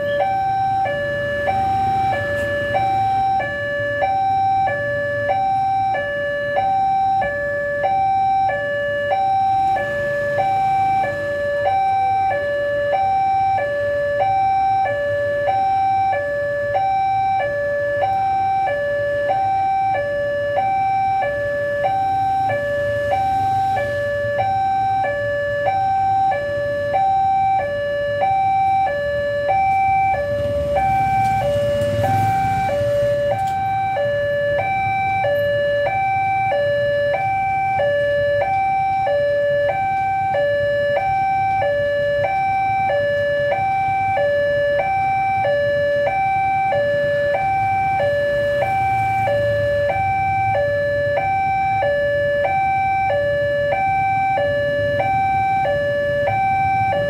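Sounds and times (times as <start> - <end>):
level crossing two-tone alarm: 0.0 - 57.0
motorbikes and cars rumbling: 0.0 - 57.0.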